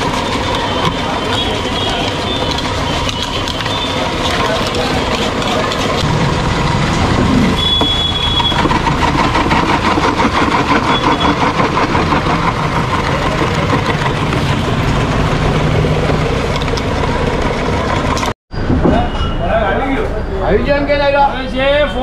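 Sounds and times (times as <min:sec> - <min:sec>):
ice crusher grinding ice: 0:00.0 - 0:18.3.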